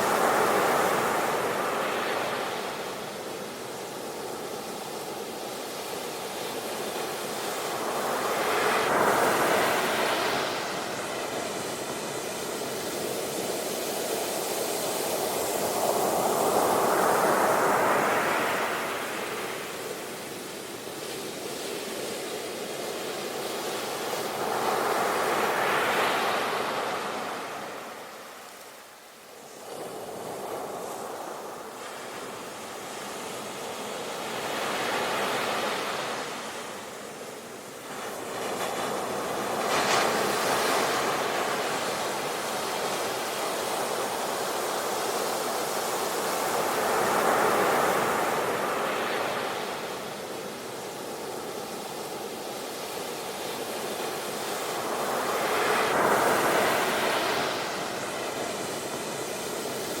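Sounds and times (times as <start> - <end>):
ocean waves breaking on shore: 0.0 - 60.0.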